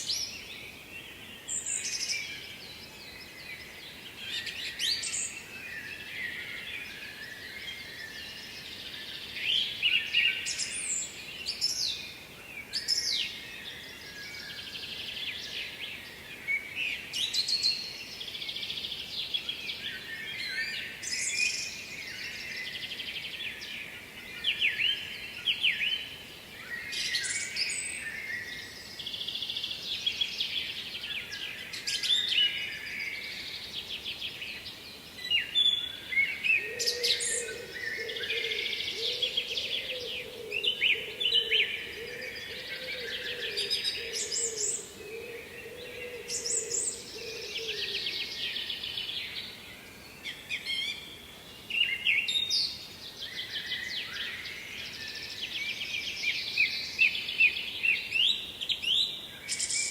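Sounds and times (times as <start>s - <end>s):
birds singing: 0.0s - 59.9s
faint background noise: 0.0s - 59.9s.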